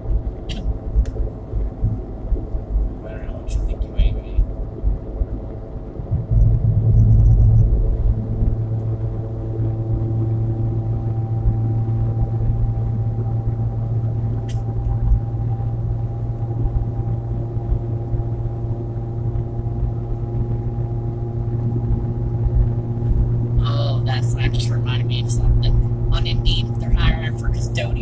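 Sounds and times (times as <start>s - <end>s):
car engine humming at speed: 0.0s - 28.0s
road noise: 0.0s - 28.0s.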